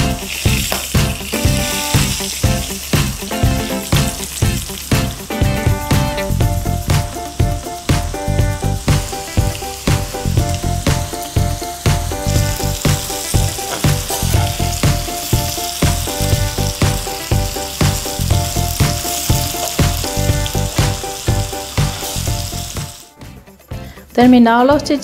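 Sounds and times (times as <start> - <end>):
food sizzling in oil: 0.0 - 23.1
background music with beat: 0.0 - 25.0.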